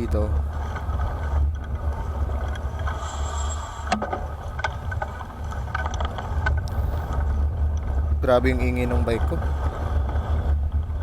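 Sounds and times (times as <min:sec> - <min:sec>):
bicycle clicks and creaks: 0:00.0 - 0:11.0
wind buffeting microphone: 0:00.0 - 0:11.0.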